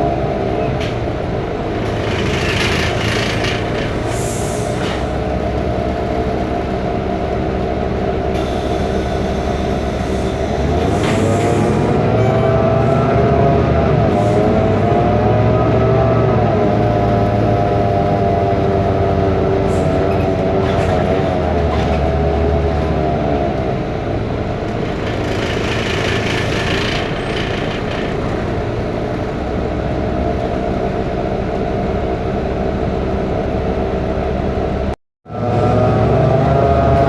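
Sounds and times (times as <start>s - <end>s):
bus diesel engine whining drone: 0.0s - 37.0s.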